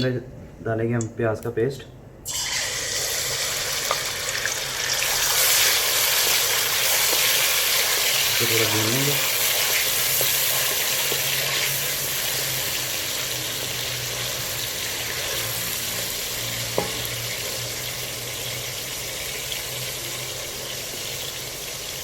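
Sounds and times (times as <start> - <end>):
onion paste sizzling in oil: 2.2 - 22.0.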